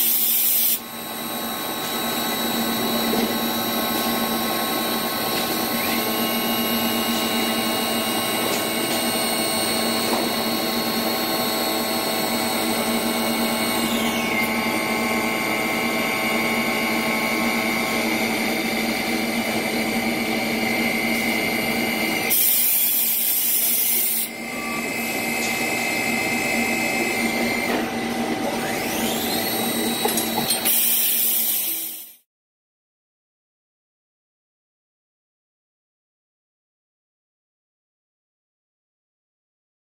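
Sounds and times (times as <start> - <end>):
lathe mechanical whine: 0.0 - 32.2.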